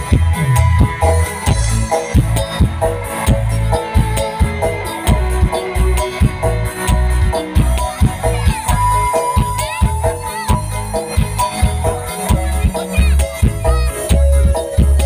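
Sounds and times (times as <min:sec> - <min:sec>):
deep bass: 0:00.0 - 0:15.0
keyboard melody: 0:00.0 - 0:15.0
steady drum beat: 0:00.0 - 0:15.0.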